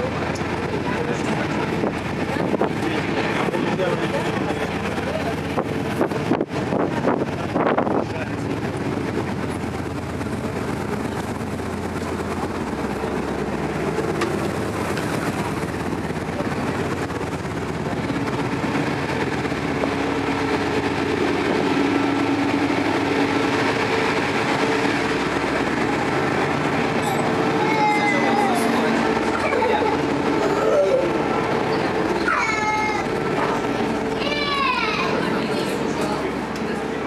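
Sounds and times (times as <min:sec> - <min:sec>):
boat engine drone: 0:00.0 - 0:37.0
water rushing: 0:00.0 - 0:37.0.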